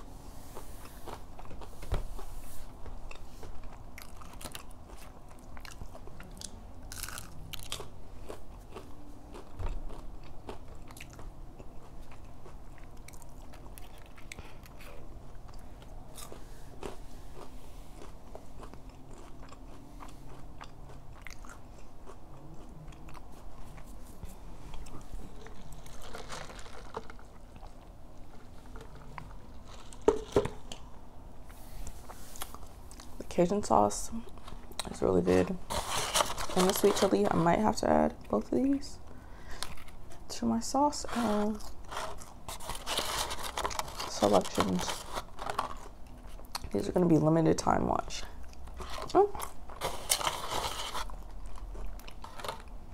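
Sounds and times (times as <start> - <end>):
chewing and crunching: 0.0 - 33.3, 34.1 - 40.3, 41.1 - 47.0, 48.2 - 52.9.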